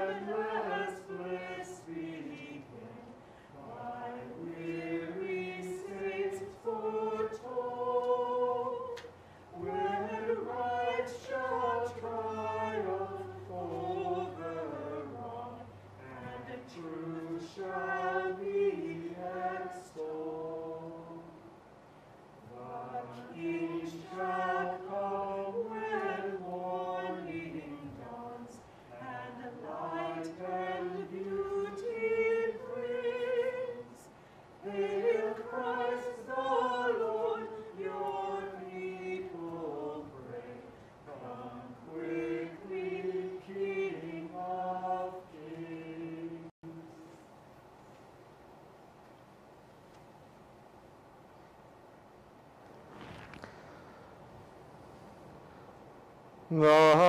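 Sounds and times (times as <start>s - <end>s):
choir singing a hymn: 0.0s - 21.6s, 22.4s - 47.1s.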